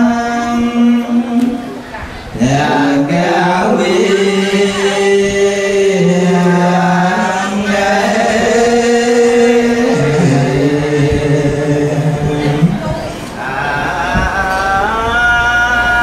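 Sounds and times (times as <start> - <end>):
man chanting: 2.4 - 16.0.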